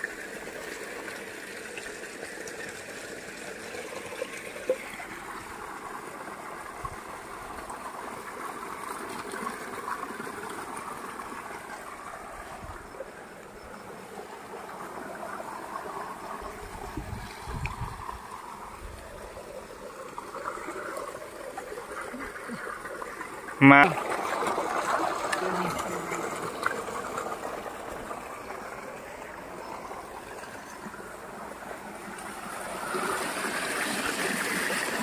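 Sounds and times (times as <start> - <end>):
water gushing into a tank: 0.0 - 35.0.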